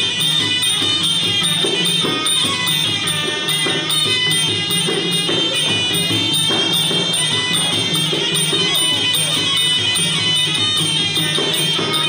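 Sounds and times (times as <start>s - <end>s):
hand drums: 0.0s - 12.0s
small cymbals: 0.0s - 12.0s.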